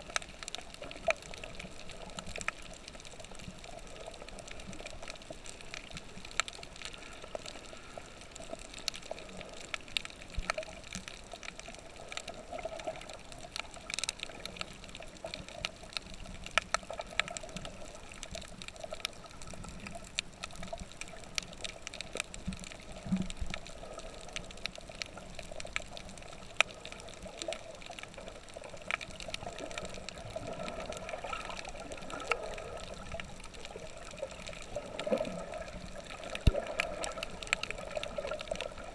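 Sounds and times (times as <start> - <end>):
small clicks and crackles: 0.0 - 38.9.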